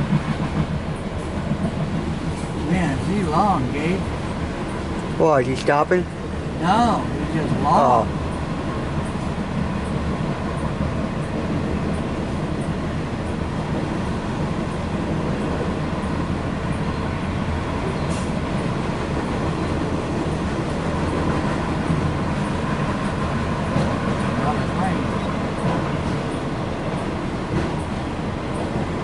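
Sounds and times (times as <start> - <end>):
train wheels on rail: 0.0 - 29.0.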